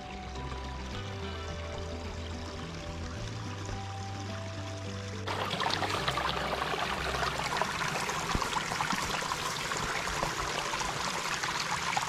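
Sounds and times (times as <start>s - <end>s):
creek babbling and trickling: 0.0s - 12.0s.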